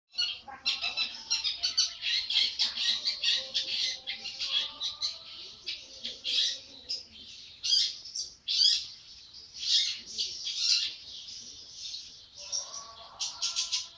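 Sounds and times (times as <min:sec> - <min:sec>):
bird harsh chattering song: 0:00.1 - 0:13.9.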